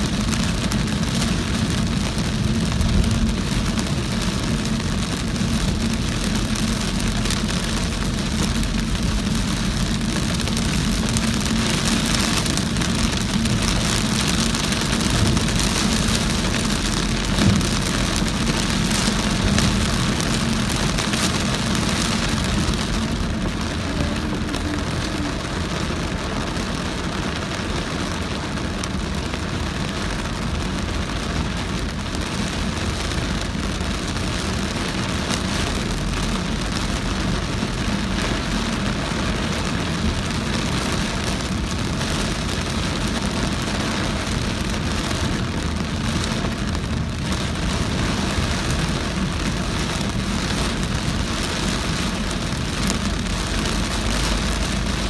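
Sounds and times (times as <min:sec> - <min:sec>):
car road noise on wet streets: 0:00.0 - 0:55.0
heavy rain on car: 0:00.0 - 0:55.0.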